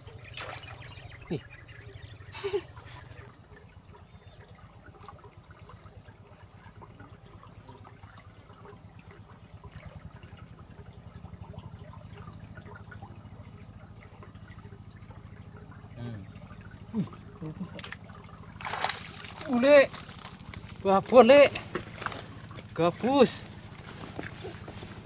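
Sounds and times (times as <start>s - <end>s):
river water trickling: 0.0s - 25.0s.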